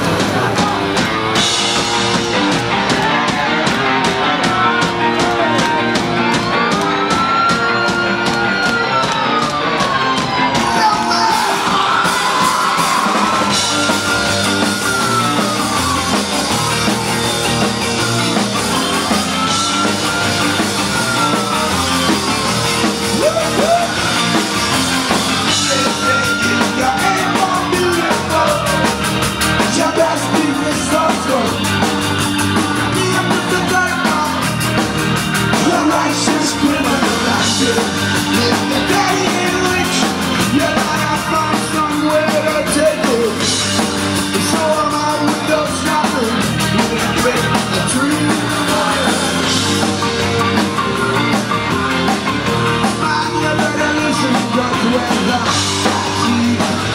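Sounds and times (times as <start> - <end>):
live punk band: 0.0 - 56.9
shouted lead vocal: 0.0 - 56.9.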